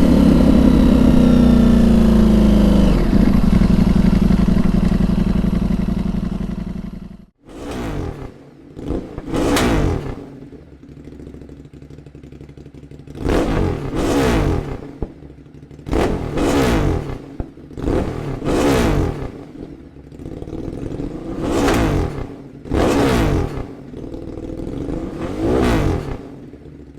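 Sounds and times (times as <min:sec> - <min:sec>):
engine idling: 0:00.0 - 0:18.5, 0:19.2 - 0:22.8, 0:23.5 - 0:25.4
motorcycle engine revving: 0:00.0 - 0:26.9.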